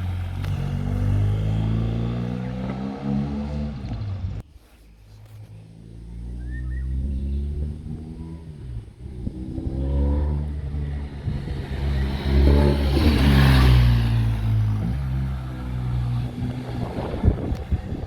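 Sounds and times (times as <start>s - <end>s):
motorcycle engine accelerating: 0.0s - 4.4s, 5.4s - 18.0s.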